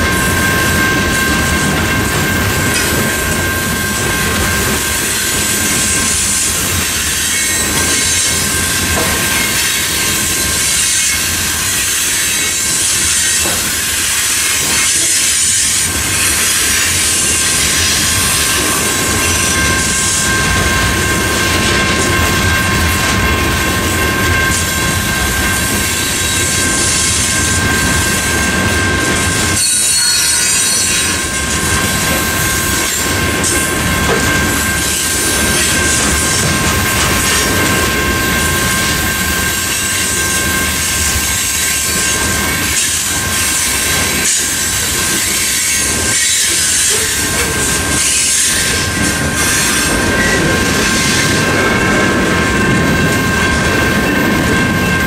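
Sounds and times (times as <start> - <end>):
crossing bells ringing: 0.0 - 55.0
freight train wheels rumbling: 0.0 - 55.0.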